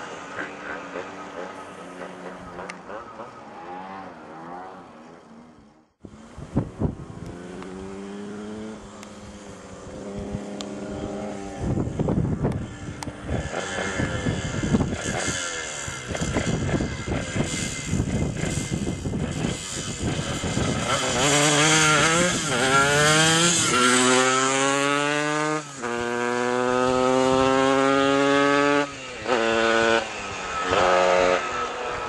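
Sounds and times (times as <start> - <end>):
two-stroke dirt bike revving: 0.0 - 32.0.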